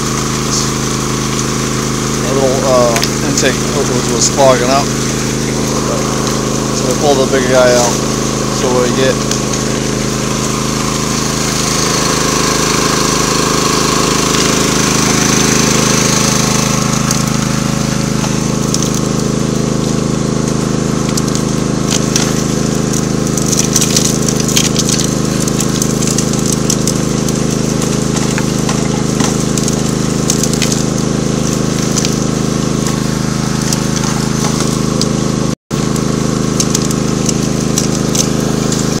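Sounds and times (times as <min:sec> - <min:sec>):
small gasoline engine running: 0:00.0 - 0:39.0.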